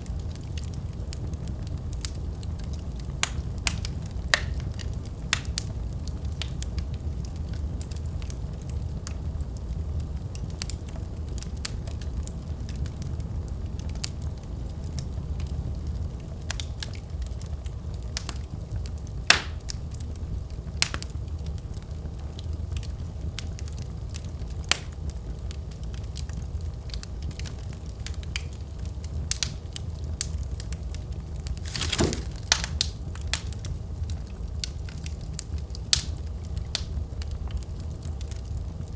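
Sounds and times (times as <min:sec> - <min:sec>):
burning logs crackling and popping: 0:00.0 - 0:38.9
fire flames rumbling: 0:00.0 - 0:38.9.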